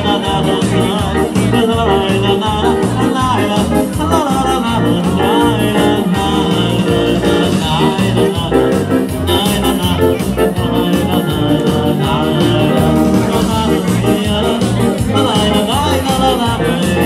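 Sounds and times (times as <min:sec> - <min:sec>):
lively dance music: 0:00.0 - 0:17.0.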